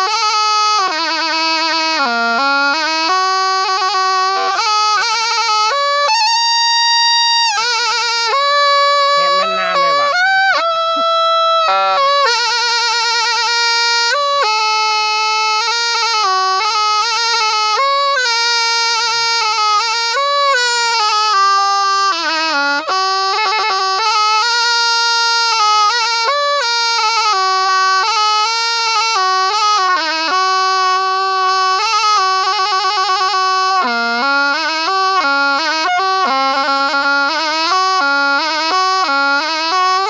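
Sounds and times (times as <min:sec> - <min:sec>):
oboe melody with trills: 0:00.0 - 0:40.0.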